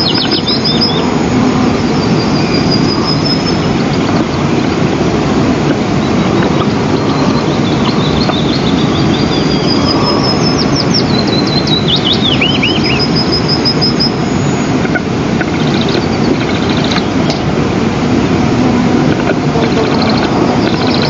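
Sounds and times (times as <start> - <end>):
small bird singing: 0.0 - 5.0, 6.0 - 14.8, 15.5 - 17.5, 19.7 - 21.0
wind rushing on microphone: 0.0 - 21.0.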